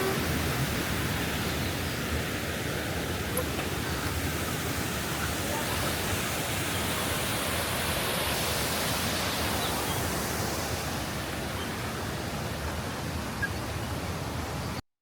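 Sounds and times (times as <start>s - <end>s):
water pouring over waterfall: 0.0s - 13.0s.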